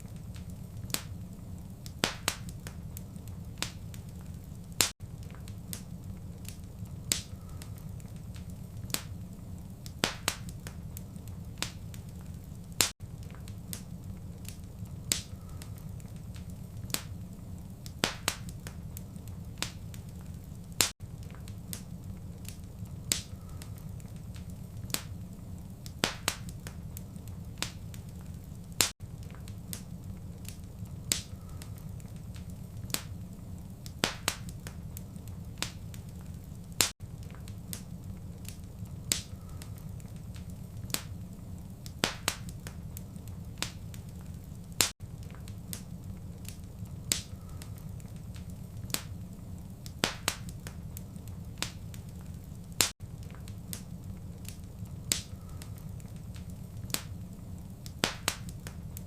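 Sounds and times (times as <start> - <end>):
low fire rumble: 0.0 - 59.0
wood fire popping: 0.0 - 59.0.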